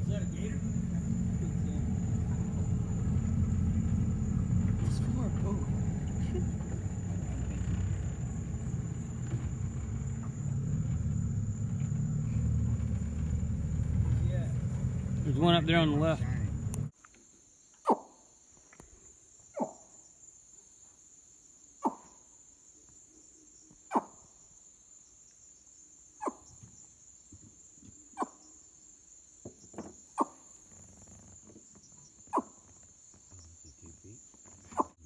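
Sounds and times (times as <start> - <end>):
night insects chorus: 0.0 - 35.0.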